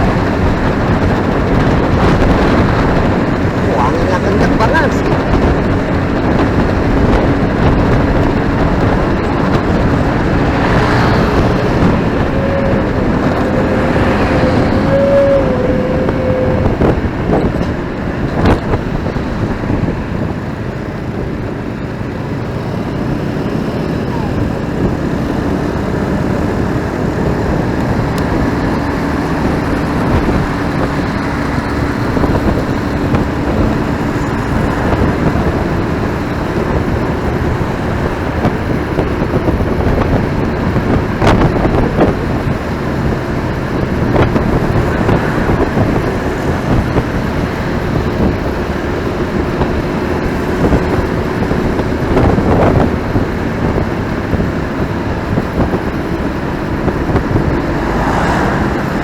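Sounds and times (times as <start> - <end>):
motorcycle engine running: 0.0 - 57.9
passing traffic: 0.0 - 59.0
wind rush: 0.0 - 59.0.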